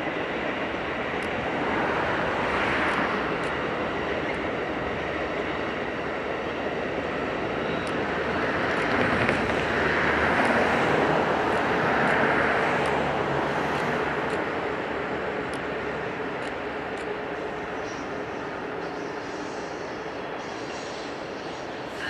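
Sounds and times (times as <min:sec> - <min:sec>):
distant train rumbling past: 0:00.0 - 0:22.0.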